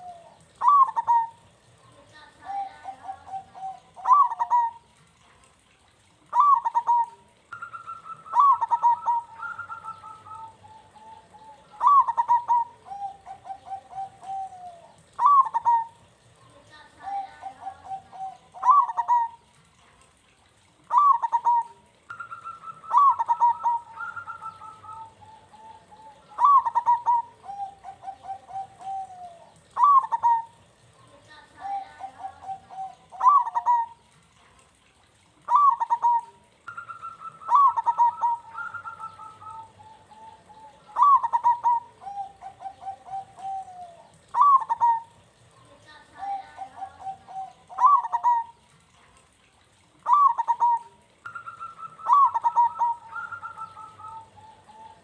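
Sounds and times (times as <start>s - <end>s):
dove cooing: 0.0s - 5.3s, 6.2s - 19.6s, 20.8s - 34.2s, 35.4s - 48.9s, 50.0s - 55.0s.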